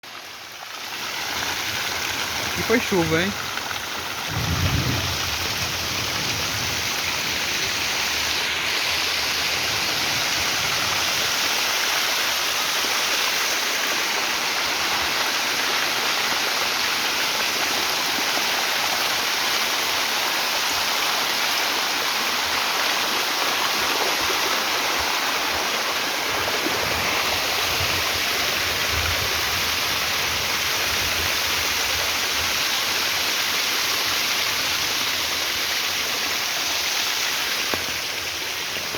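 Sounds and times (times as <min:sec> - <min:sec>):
heavy rain hissing: 0:00.2 - 0:38.9.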